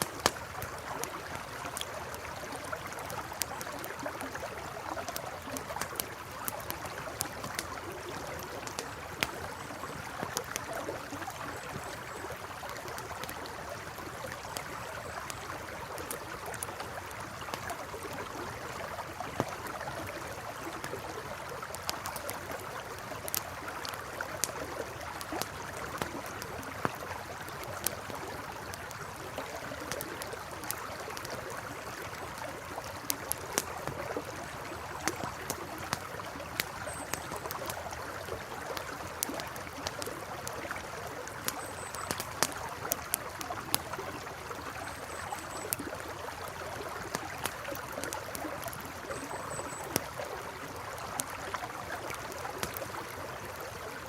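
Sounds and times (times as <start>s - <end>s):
campfire crackling and popping: 0.0s - 54.0s
river water babbling: 0.0s - 54.0s.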